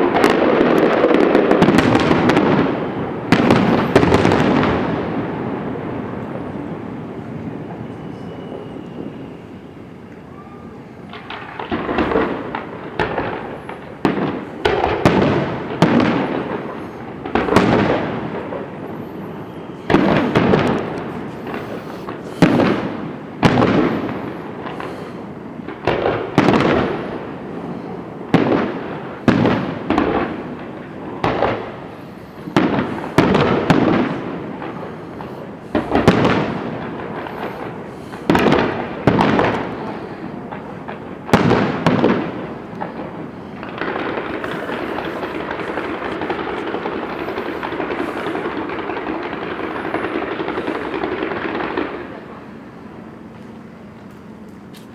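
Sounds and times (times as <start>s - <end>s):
fireworks bursting with echo: 0.0s - 54.9s.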